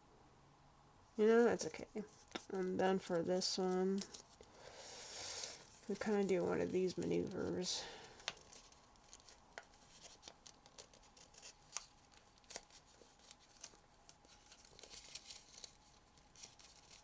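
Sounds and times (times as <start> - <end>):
paper being folded and creased: 1.4 - 4.6, 5.3 - 17.0.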